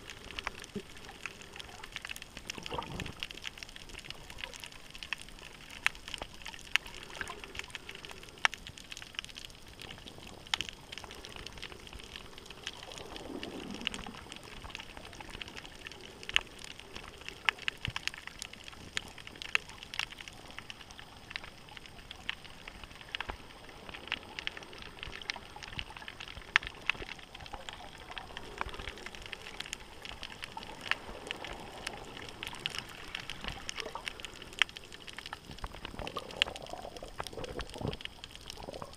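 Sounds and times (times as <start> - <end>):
crackle of sharp clicks: 0.0 - 38.9
steady underwater hiss: 0.0 - 38.9.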